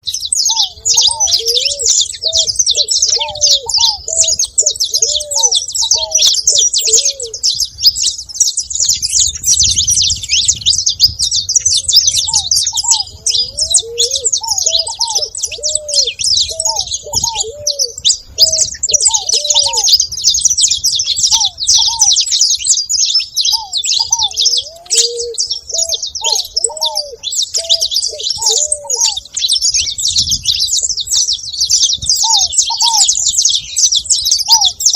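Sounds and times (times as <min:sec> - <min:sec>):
finches chirping and twittering: 0:00.0 - 0:34.9
dove cooing: 0:00.3 - 0:08.4, 0:11.6 - 0:22.3, 0:23.1 - 0:31.2, 0:31.8 - 0:34.9.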